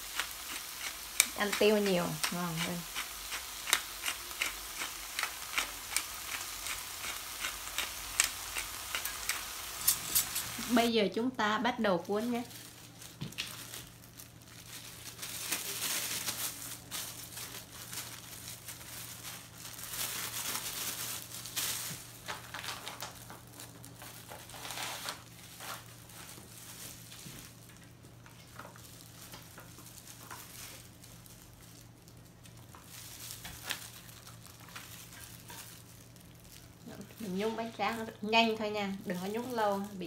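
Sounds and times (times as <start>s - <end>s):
plastic gloves crinkling: 0.0s - 40.0s.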